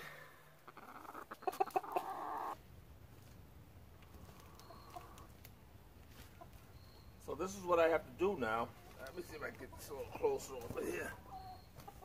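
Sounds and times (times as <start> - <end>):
quiet outdoor background: 0.0 - 12.0
chickens clucking: 0.6 - 12.0.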